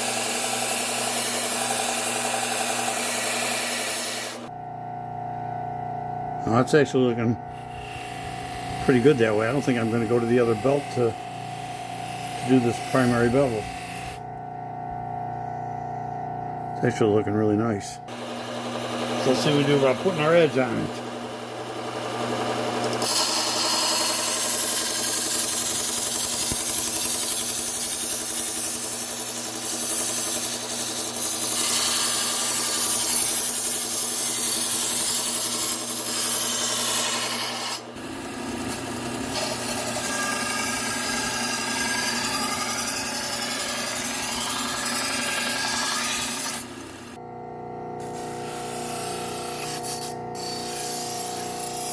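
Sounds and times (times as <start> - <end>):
belt sharpener grinding steel: 0.0 - 4.5, 6.4 - 14.2, 18.1 - 47.2, 48.0 - 51.9
running belt hum: 0.0 - 51.9.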